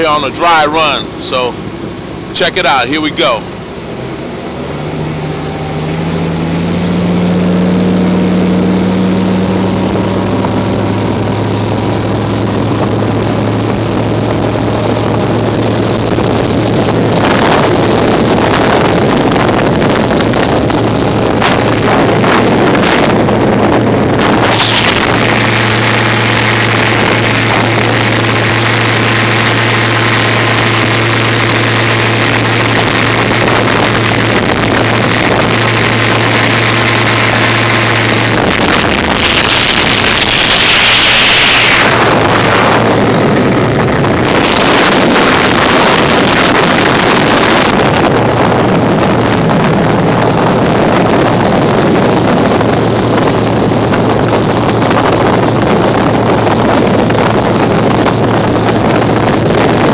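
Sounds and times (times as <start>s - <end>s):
boat engine running: 0.0s - 59.9s
rushing air: 0.0s - 59.9s
wind buffeting microphone: 0.0s - 59.9s.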